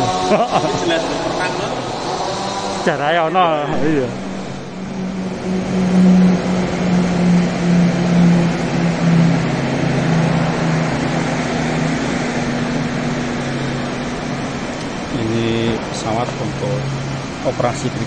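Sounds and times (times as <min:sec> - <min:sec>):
mechanical drone with low hum: 0:00.0 - 0:18.0.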